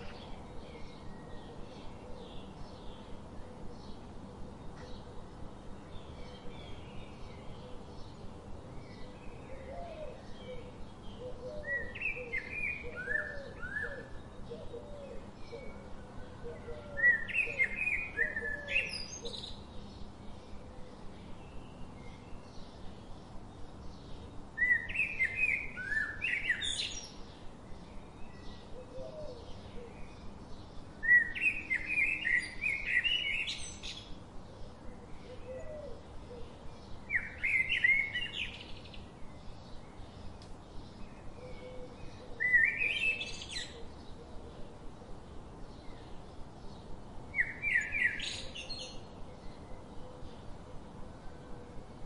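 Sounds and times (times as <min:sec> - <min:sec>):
bird chirping: 0:05.8 - 0:44.9, 0:45.6 - 0:51.0.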